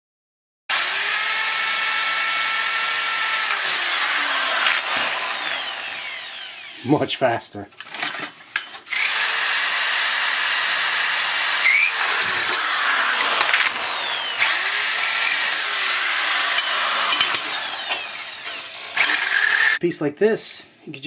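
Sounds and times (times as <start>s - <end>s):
power drill whining: 0.7s - 6.9s, 7.9s - 19.8s.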